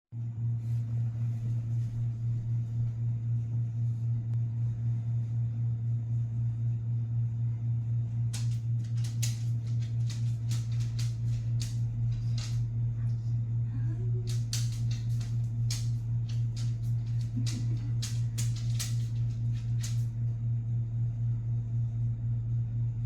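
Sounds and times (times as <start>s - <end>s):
pulsing low hum: 0.1s - 23.0s.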